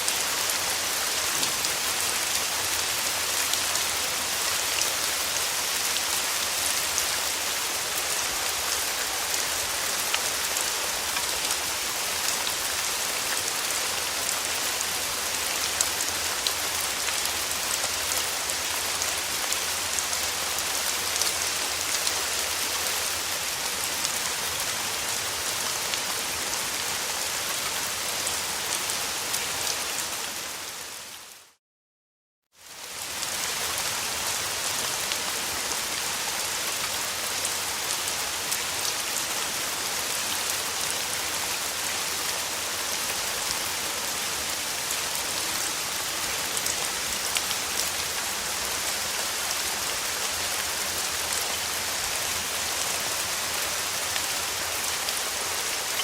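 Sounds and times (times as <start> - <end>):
rain falling: 0.0 - 31.6, 32.6 - 56.0.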